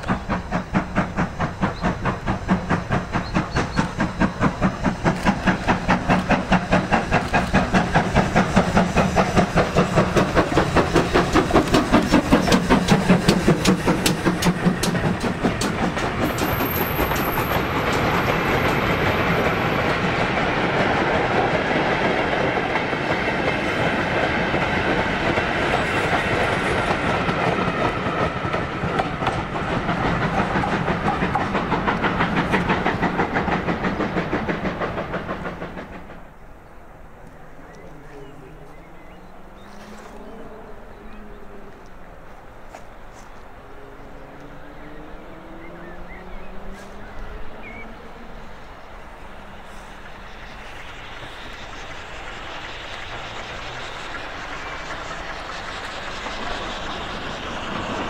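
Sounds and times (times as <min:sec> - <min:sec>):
steam locomotive exhaust beating: 0:00.0 - 0:58.0.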